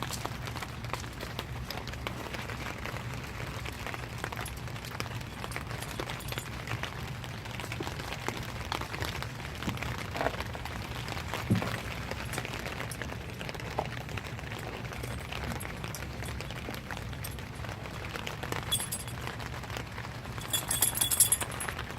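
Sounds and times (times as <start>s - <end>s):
low steady hum: 0.0s - 21.9s
rain patter: 0.0s - 21.9s.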